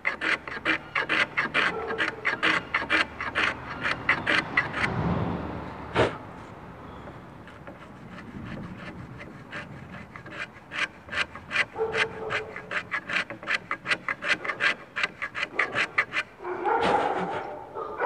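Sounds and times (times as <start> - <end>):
hand plane rasping across wood: 0.0 - 5.0, 7.4 - 17.3.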